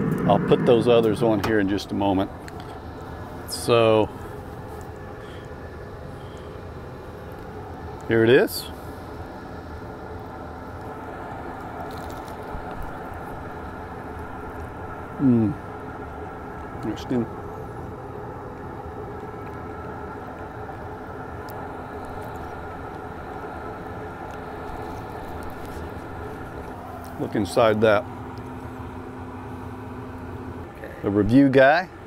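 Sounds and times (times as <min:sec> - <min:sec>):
low background rumble and hiss: 0:00.0 - 0:32.0.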